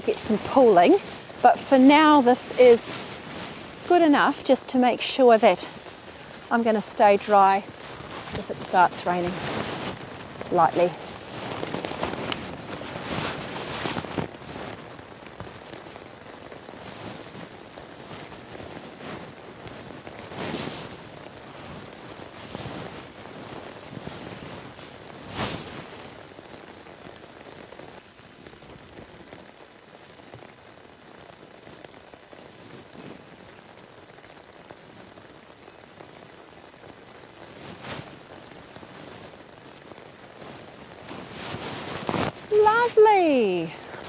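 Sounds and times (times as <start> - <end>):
light rain falling: 0.0 - 44.0.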